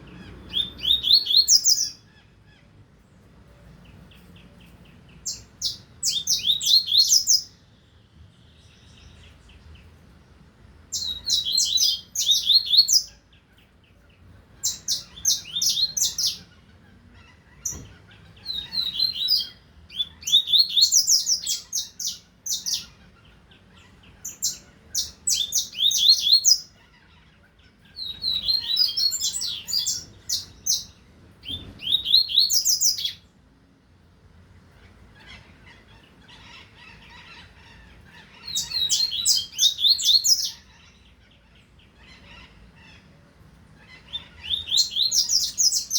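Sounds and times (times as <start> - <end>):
bird singing twittering phrases: 0.0 - 33.4, 34.7 - 43.1, 43.8 - 45.9.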